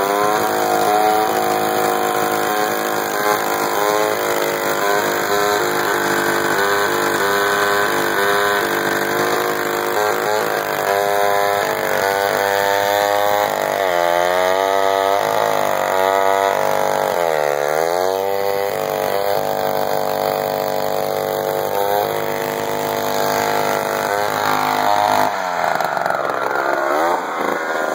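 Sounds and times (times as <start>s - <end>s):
chainsaw cutting through log: 0.0s - 27.9s.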